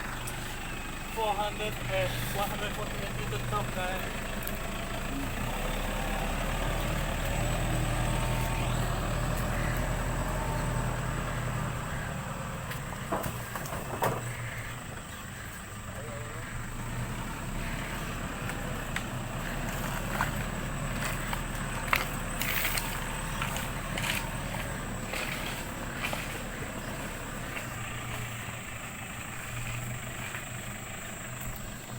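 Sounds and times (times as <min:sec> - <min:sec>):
vehicle engine running: 0:00.0 - 0:31.9.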